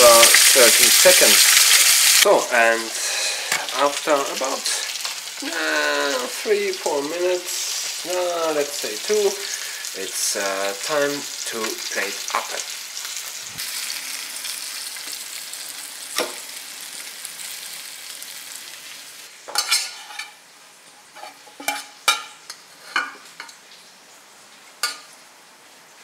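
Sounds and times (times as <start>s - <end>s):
fish sizzling in frying pan: 0.0s - 25.4s.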